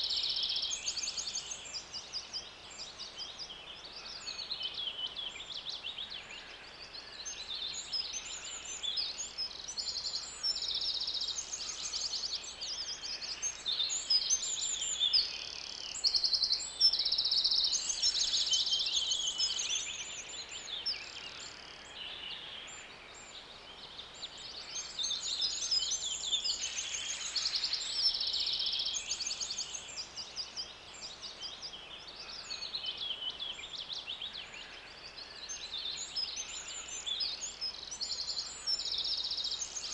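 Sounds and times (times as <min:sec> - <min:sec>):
faint steady background hiss: 0:00.0 - 0:39.9.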